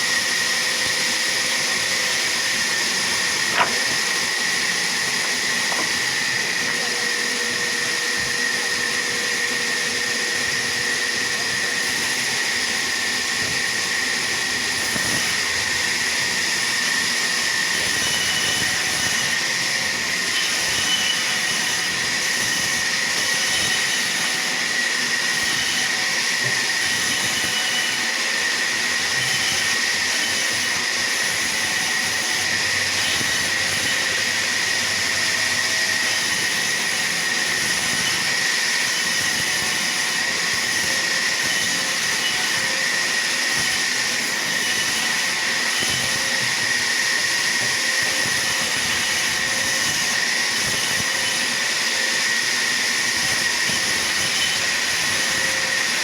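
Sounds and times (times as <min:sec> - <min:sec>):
sawmill machinery whining: 0:00.0 - 0:56.0.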